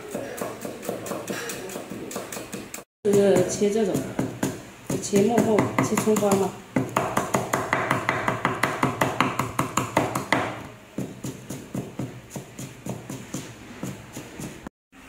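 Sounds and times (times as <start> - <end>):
cleaver chopping on wooden board: 0.1 - 14.5.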